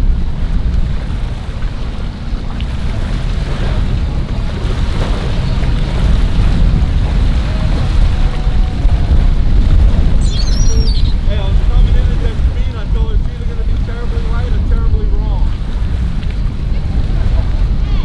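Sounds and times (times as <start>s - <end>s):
faint boats on water: 0.0s - 18.0s
wind buffeting microphone: 0.0s - 18.0s.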